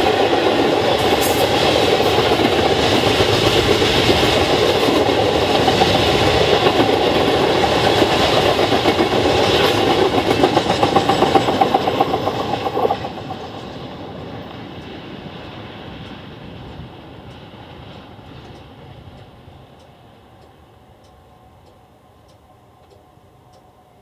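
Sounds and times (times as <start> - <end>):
train wheels clicking over rail joints: 0.0 - 23.7
freight train rolling past: 0.0 - 24.0.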